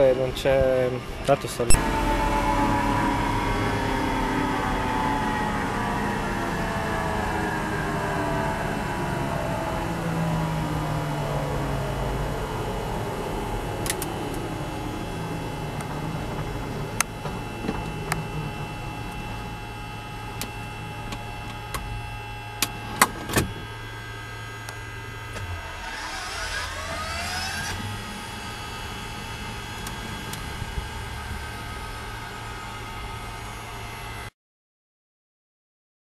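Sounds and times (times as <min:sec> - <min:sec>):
helicopter turbine winding down: 0:00.0 - 0:22.9, 0:23.6 - 0:34.3
shifting tones: 0:01.5 - 0:22.9, 0:24.8 - 0:33.6.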